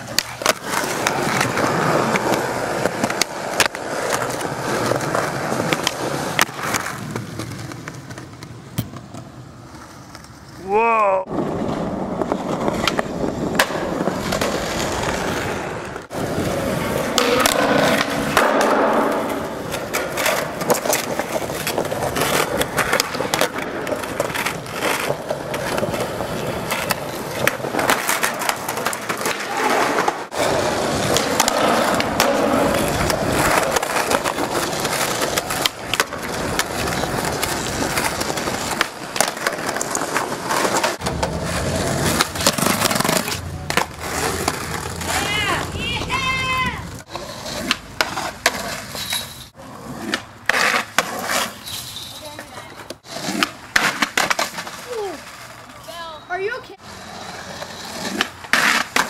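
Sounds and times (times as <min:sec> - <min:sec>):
skateboard wheels rumbling: 0:00.0 - 0:59.0
skateboards clacking on ground: 0:00.0 - 0:59.0.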